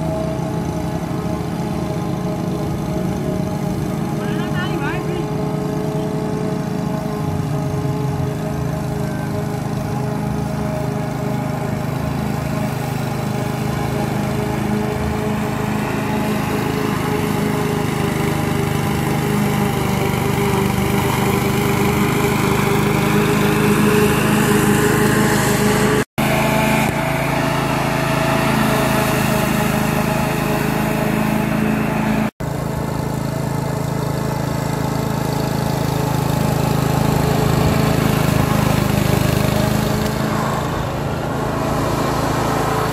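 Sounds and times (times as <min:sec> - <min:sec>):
lawn mower engine cutting grass: 0:00.0 - 0:42.9.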